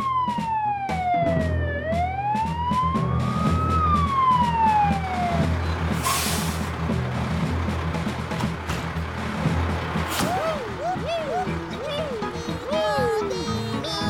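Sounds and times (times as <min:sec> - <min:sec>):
engine running low: 0:00.0 - 0:14.0
fire engine siren wailing: 0:00.0 - 0:14.0.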